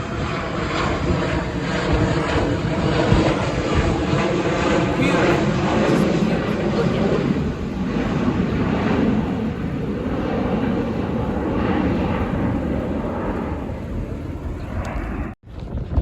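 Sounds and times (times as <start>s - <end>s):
jet airliner flying by: 0.0s - 16.0s.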